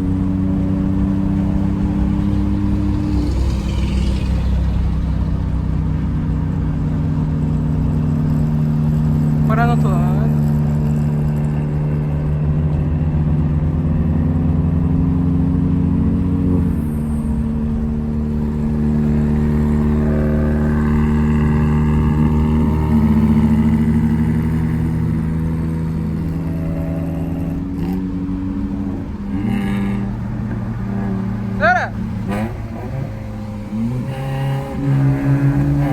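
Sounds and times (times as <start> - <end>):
car engine droning: 0.0 - 35.9.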